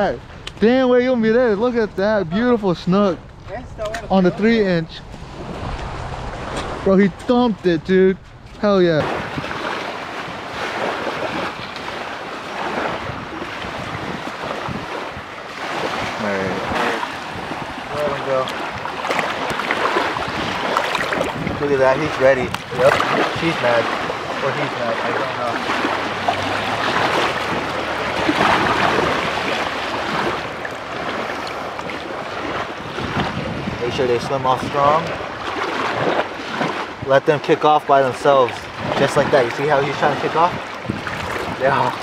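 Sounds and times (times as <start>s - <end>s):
small waves washing on sand: 0.0s - 42.0s
wind on microphone: 0.0s - 42.0s
shallow water sloshing and splashing: 3.2s - 42.0s.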